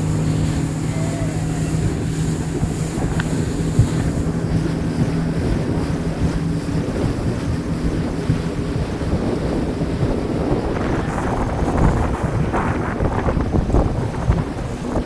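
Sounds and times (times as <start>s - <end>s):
boat engine droning: 0.0s - 15.0s
water: 0.0s - 15.0s
wind buffeting microphone: 0.0s - 15.0s.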